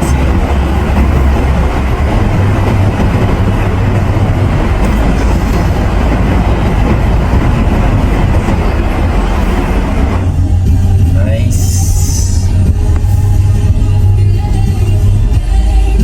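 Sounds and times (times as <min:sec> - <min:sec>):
car road noise inside cabin: 0:00.0 - 0:16.0.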